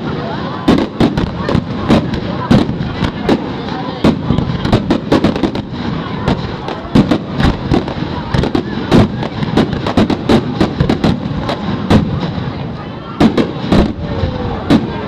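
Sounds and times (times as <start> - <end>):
continuous rumble: 0.0 - 15.0.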